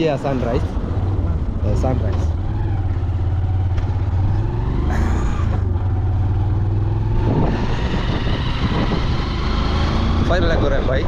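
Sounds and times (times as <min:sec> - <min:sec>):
motorcycle engine running: 0:00.3 - 0:11.0.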